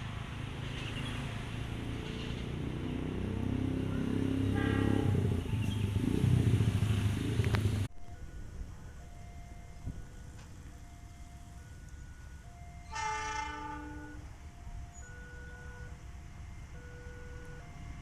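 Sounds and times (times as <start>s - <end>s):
motor vehicle engines rumbling: 0.0s - 18.0s.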